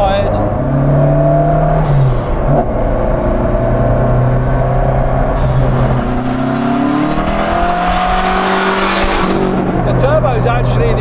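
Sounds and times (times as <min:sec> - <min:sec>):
car engine under load: 0:00.0 - 0:11.0
road and wind noise: 0:00.0 - 0:11.0.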